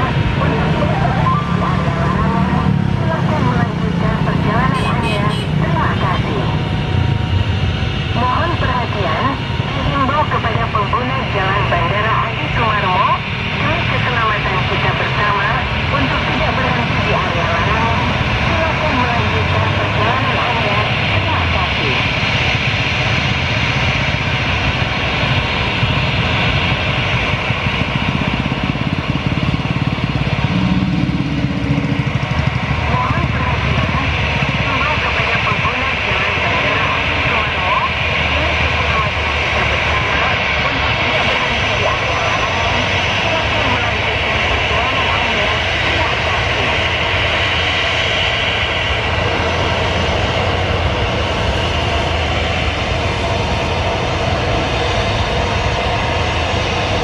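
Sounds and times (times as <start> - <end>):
jet engines hissing: 0.0 - 57.0.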